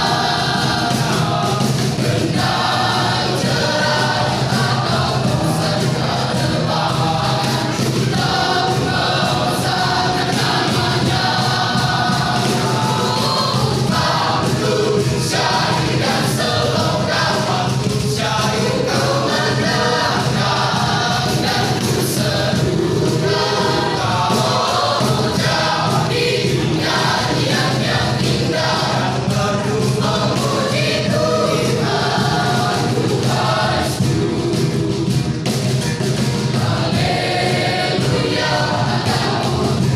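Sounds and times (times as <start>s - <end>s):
youth choir singing: 0.0s - 39.9s.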